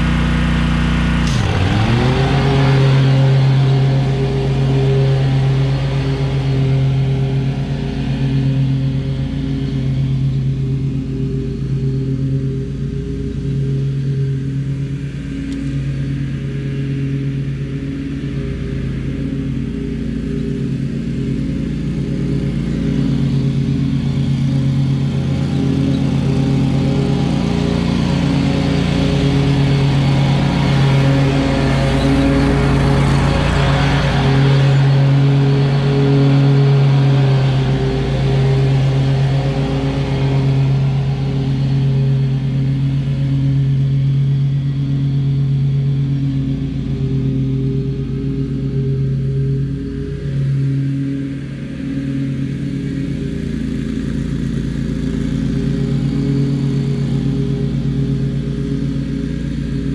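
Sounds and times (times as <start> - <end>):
mower engine running: 0.0 - 59.9.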